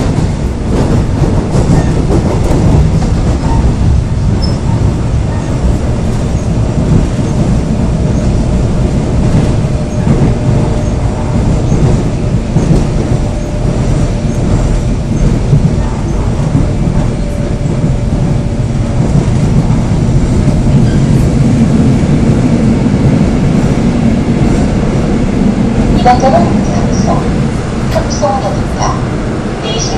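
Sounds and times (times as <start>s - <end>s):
train wheels rumbling on rail: 0.0s - 29.9s.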